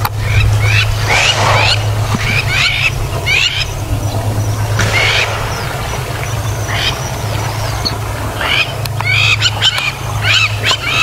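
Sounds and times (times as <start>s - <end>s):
steady low hum: 0.0s - 11.0s
wild dogs chirping: 0.0s - 11.0s.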